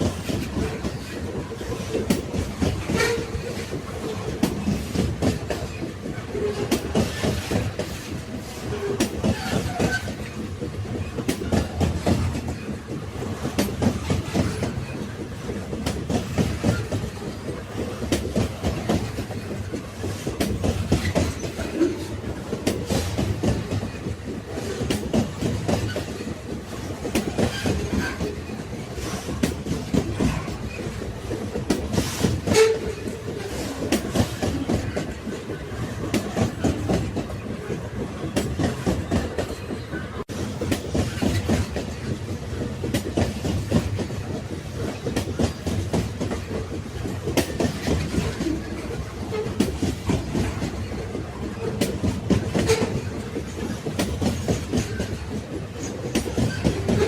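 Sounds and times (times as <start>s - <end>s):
railway carriages rumbling: 0.0s - 57.0s
wheels clacking over rail joints: 0.0s - 57.0s.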